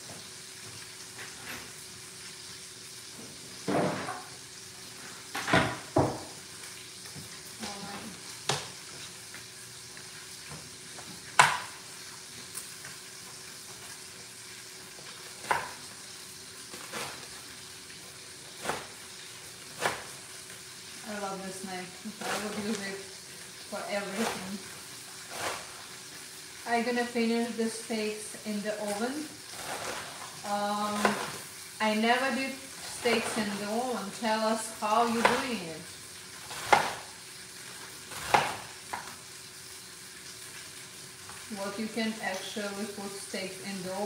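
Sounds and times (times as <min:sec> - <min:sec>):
steaks sizzling in a pan: 0:00.0 - 0:44.0.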